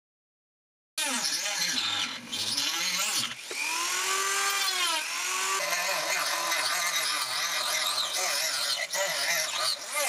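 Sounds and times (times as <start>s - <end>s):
rotary tool motor whining: 1.0s - 10.0s
saw blade cutting sheet: 1.0s - 10.0s.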